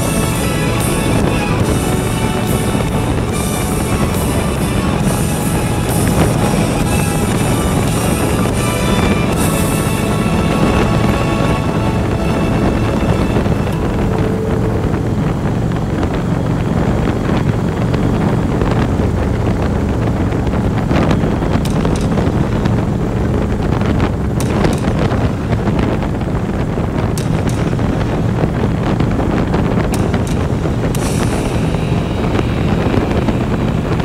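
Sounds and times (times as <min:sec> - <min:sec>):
motorcycle engine drone: 0:00.0 - 0:34.0
road noise: 0:00.0 - 0:34.0
wind buffeting microphone: 0:00.0 - 0:34.0.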